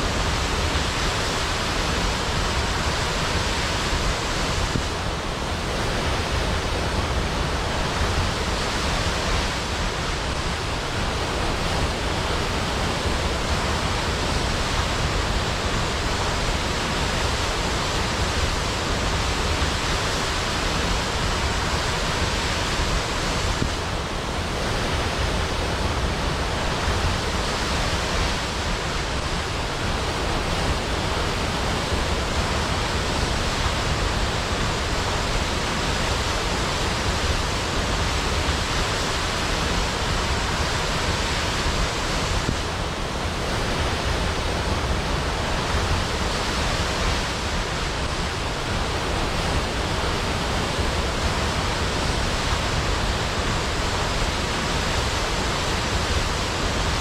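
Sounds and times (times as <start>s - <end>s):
large waterfall rushing: 0.0s - 57.0s.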